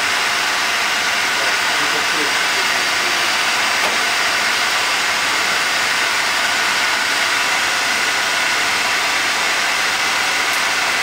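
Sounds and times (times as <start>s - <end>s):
heat gun fan blowing: 0.0s - 11.0s.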